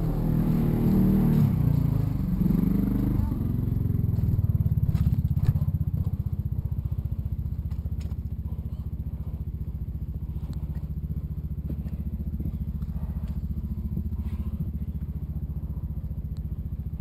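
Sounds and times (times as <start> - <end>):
utility vehicle engine idling: 0.0 - 17.0.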